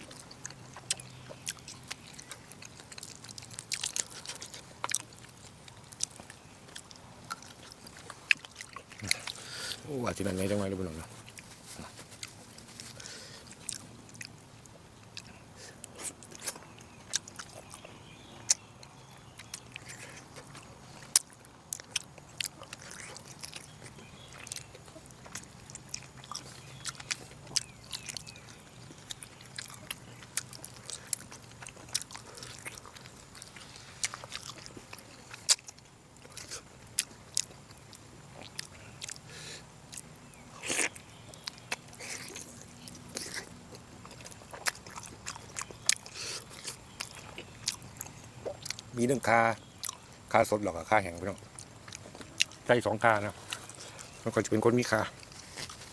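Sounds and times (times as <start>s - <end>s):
person chewing food: 0.0s - 49.0s, 49.6s - 50.6s, 51.2s - 55.9s.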